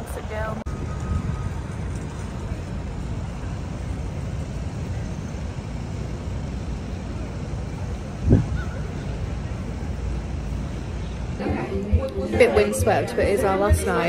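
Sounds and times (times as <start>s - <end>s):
city traffic rumble: 0.0s - 14.0s
wind buffeting microphone: 0.0s - 14.0s.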